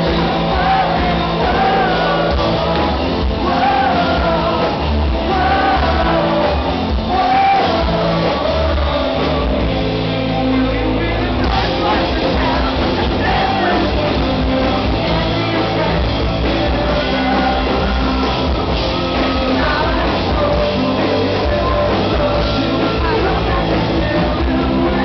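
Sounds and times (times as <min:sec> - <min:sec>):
live rock band with singer: 0:00.0 - 0:25.0.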